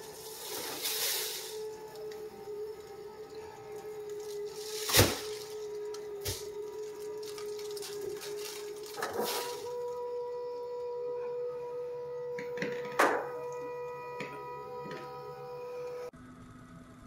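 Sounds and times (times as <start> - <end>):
litter box drum motor humming: 0.0 - 17.0.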